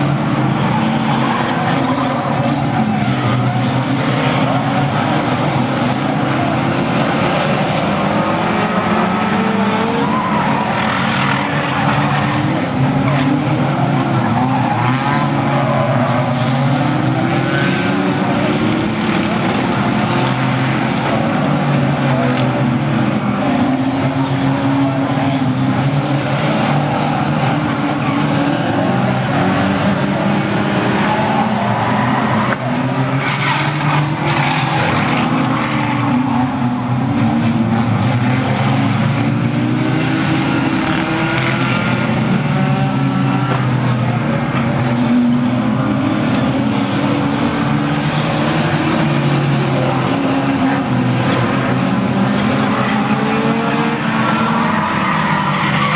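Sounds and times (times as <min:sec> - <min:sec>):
racing car engines revving: 0:00.0 - 0:55.9
tyres skidding: 0:00.0 - 0:55.9.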